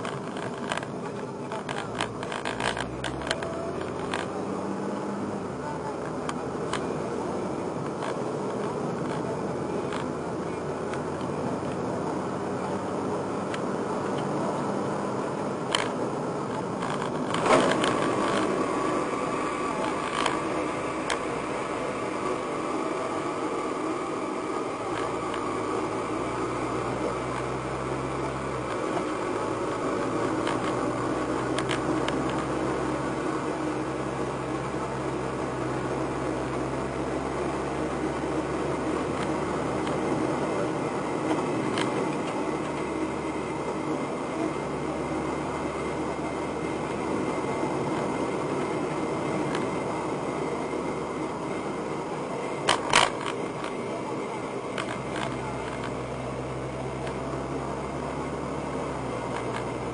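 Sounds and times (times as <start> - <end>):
car running at speed: 0.0 - 59.9
low steady drone: 0.0 - 59.9.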